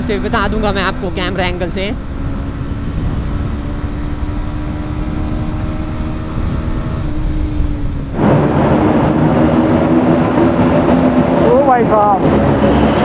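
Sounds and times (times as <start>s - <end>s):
road and wind rumble: 0.0s - 13.0s
small motorbike engine humming: 0.0s - 13.0s.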